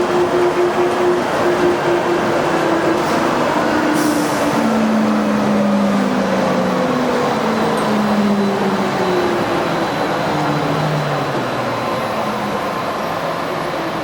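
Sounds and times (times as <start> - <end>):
people-mover train rumble: 0.0 - 14.0.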